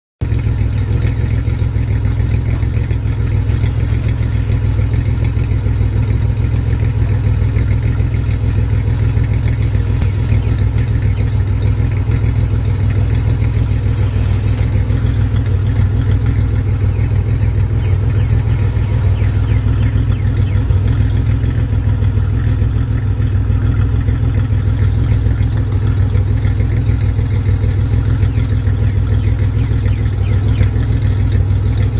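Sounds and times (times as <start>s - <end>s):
car engine idling: 0.2s - 31.9s.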